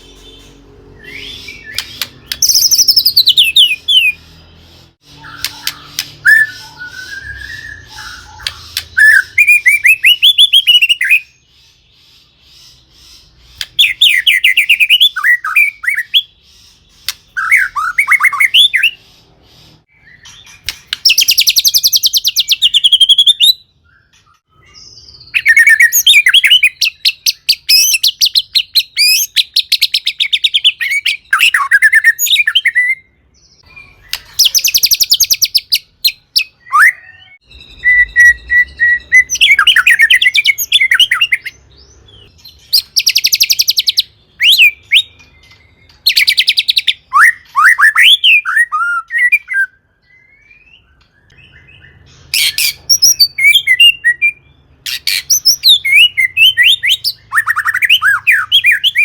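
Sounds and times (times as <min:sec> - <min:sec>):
bird singing trills and whistles: 0:00.0 - 0:59.0.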